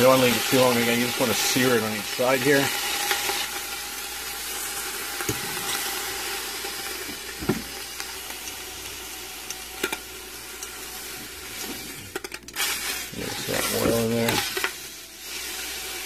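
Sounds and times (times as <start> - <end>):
meat sizzling in hot oil: 0.0 - 16.0.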